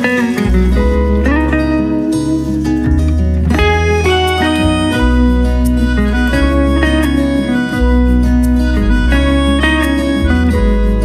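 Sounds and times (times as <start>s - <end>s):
bass line: 0.0s - 11.0s
plucked guitar: 0.0s - 11.0s.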